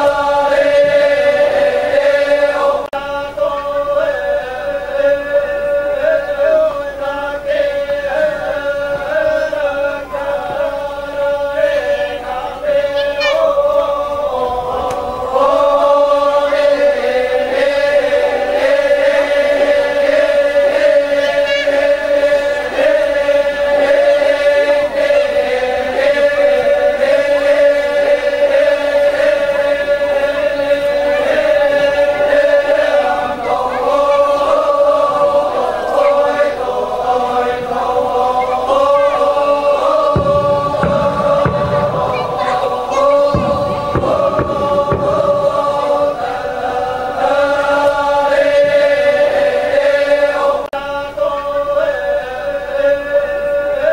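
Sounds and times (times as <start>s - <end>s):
group chanting in held notes: 0.0s - 53.9s.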